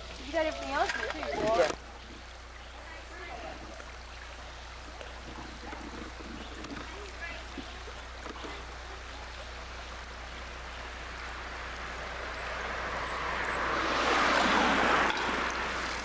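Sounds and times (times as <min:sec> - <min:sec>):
creek running over stones: 0:00.0 - 0:16.0.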